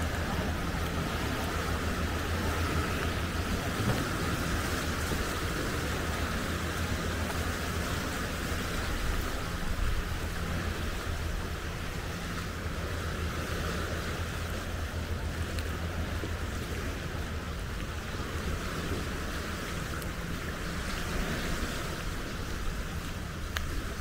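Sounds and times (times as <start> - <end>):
surf: 0.0 - 24.0
wind rumbling on microphone: 0.0 - 24.0.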